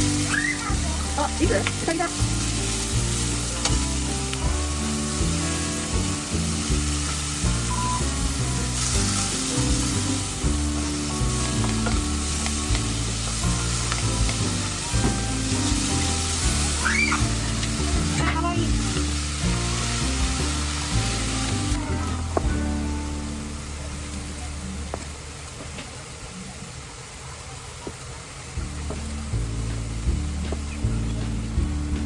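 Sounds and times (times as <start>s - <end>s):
background music with bass notes: 0.0s - 25.8s, 28.5s - 32.0s
food sizzling in a pan: 0.0s - 32.0s.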